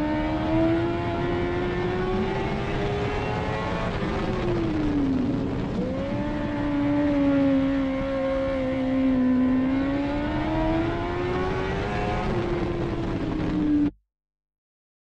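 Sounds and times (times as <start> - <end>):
race car engine: 0.0 - 13.9
road and wind noise: 0.0 - 14.0.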